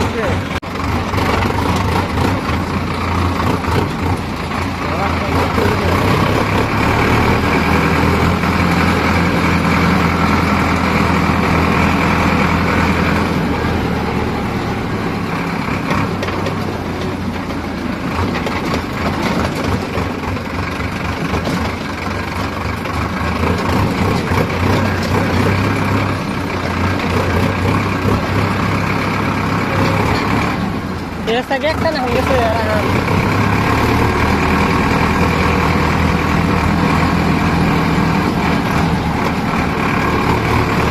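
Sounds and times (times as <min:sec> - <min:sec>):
diesel engine running loudly: 0:00.0 - 0:40.9.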